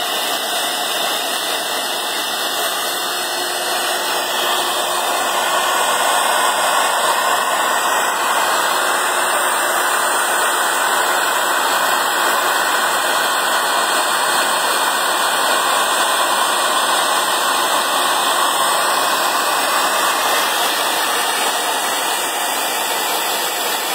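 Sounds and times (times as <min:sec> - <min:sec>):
machinery rushing noise: 0:00.0 - 0:23.9.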